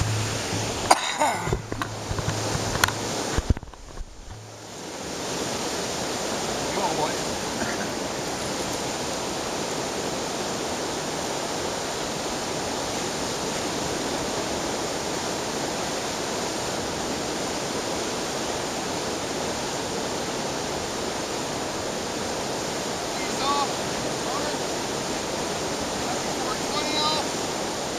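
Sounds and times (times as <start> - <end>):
river rushing: 0.0 - 27.9.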